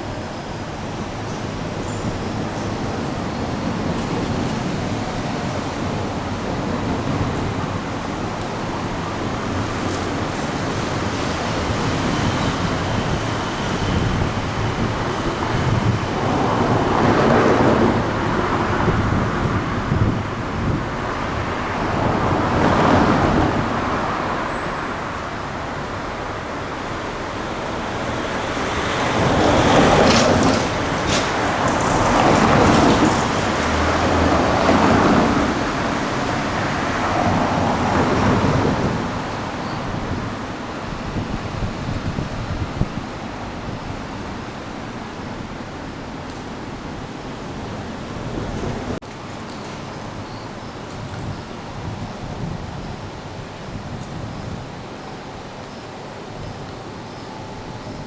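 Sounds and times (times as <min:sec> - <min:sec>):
traffic hiss: 0:00.0 - 0:58.0
wind buffeting microphone: 0:00.0 - 0:58.0.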